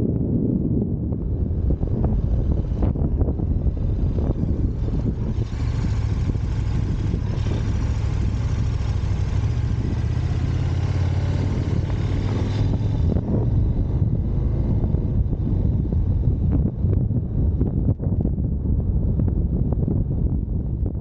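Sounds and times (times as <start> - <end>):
wind rush: 0.0 - 21.0
motorcycle engine running: 0.7 - 21.0.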